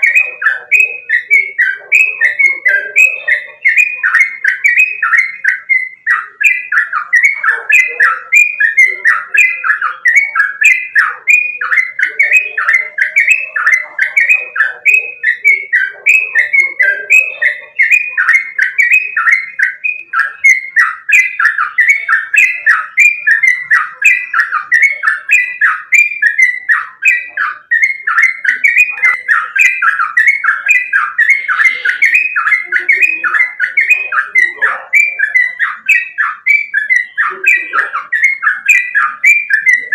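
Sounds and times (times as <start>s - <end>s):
bird singing descending whistles: 0.0s - 39.9s.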